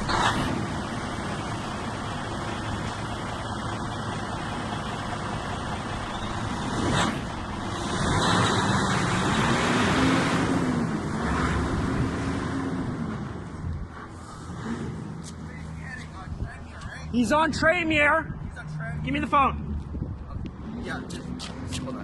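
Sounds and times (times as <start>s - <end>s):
road noise: 0.0s - 22.0s
vehicle engine: 0.0s - 22.0s.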